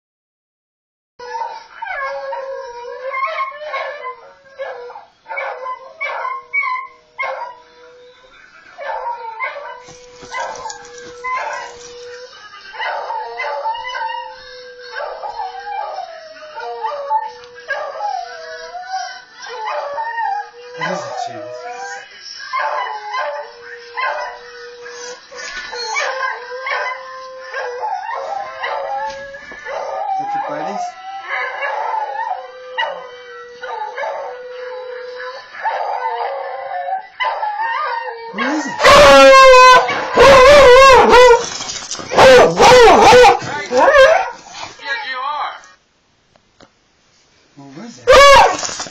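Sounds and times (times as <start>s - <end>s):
dogs howling and baying: 1.2s - 44.8s, 48.0s - 48.9s.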